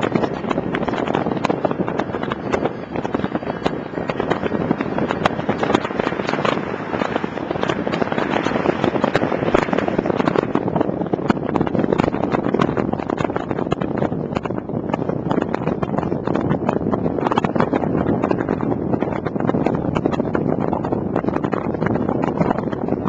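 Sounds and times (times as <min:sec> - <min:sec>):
wind and road noise from car: 0:00.0 - 0:23.0.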